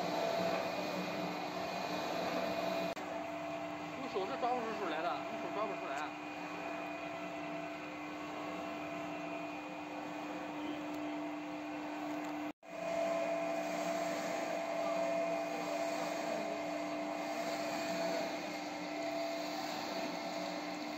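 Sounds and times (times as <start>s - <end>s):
screw press machine hum: 0.0s - 20.9s.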